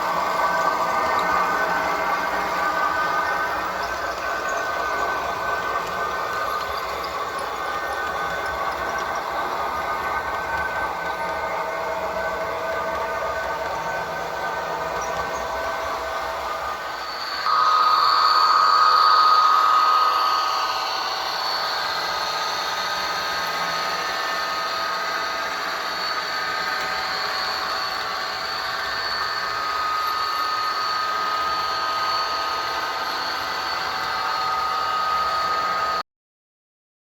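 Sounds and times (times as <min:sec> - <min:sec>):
high whine: 0:00.0 - 0:36.0.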